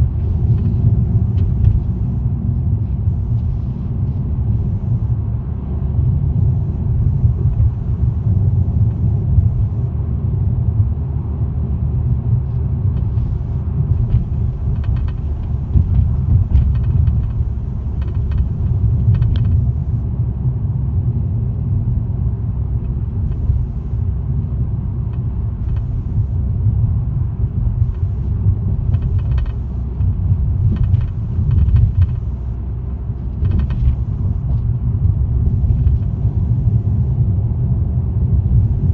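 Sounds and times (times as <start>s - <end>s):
car low rumble: 0.0s - 38.9s.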